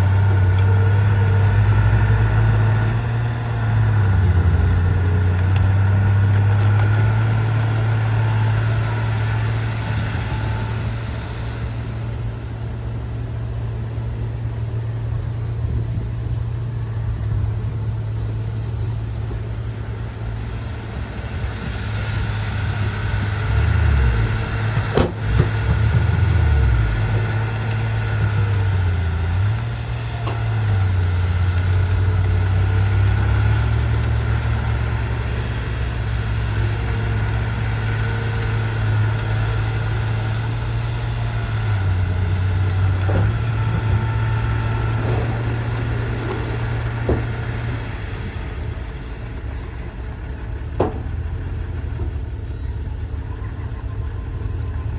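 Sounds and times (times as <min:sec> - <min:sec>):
bulldozer diesel engine: 0:00.0 - 0:54.9.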